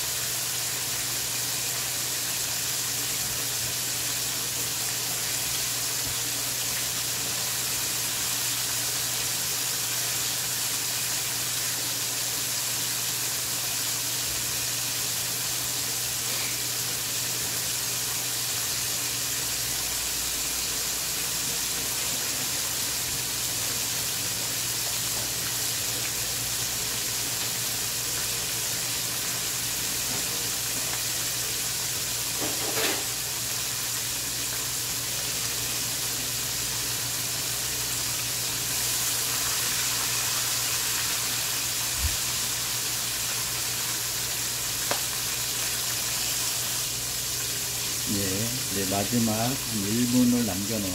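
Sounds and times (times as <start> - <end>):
chicken deep-frying in oil: 0.0 - 50.9.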